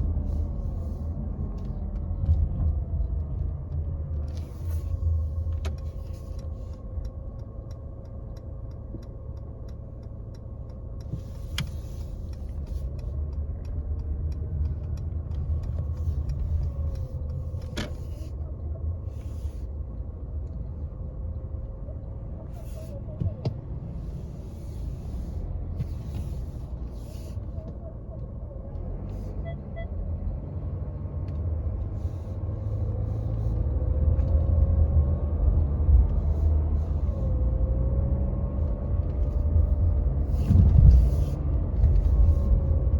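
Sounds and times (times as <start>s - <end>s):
car low rumble drifting in pitch: 0.0s - 42.9s.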